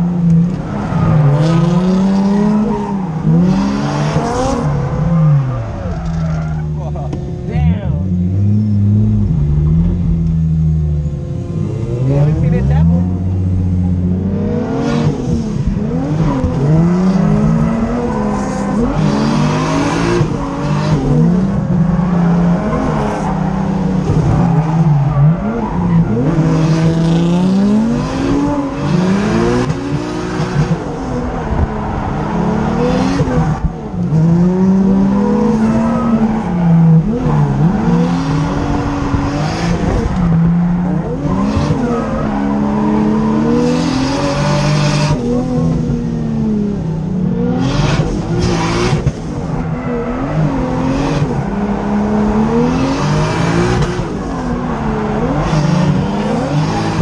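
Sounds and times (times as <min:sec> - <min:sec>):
car engine revving hard: 0:00.0 - 0:05.7, 0:08.2 - 0:57.0.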